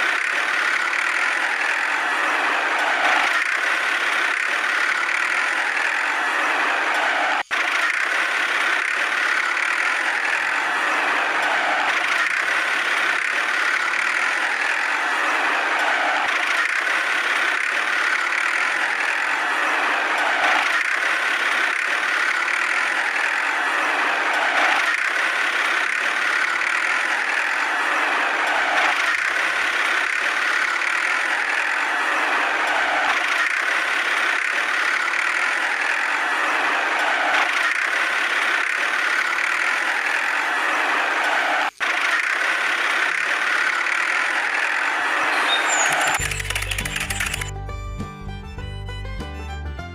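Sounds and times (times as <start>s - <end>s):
small toy motor running: 0.0s - 7.0s, 7.6s - 40.8s, 41.7s - 47.5s.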